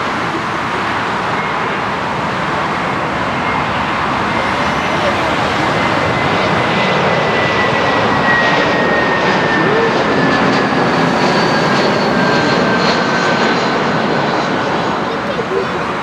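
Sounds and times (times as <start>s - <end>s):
jet engines roaring with whine: 0.0s - 16.0s.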